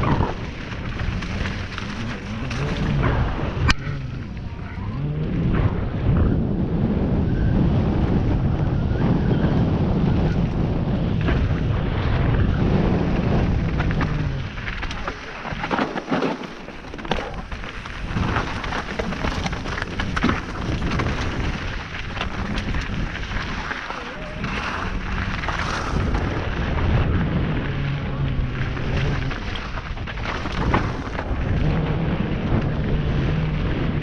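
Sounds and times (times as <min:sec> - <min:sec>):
bike rattling over rocks: 0:00.0 - 0:06.4, 0:09.2 - 0:34.0
wind buffeting microphone: 0:00.0 - 0:15.8, 0:16.8 - 0:34.0.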